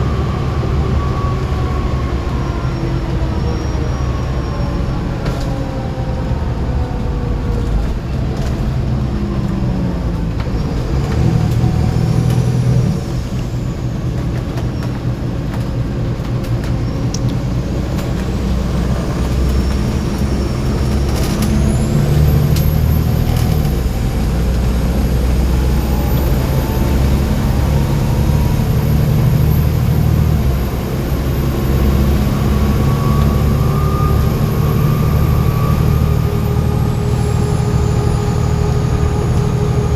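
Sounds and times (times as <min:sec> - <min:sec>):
diesel bus engine under load: 0:00.0 - 0:39.9.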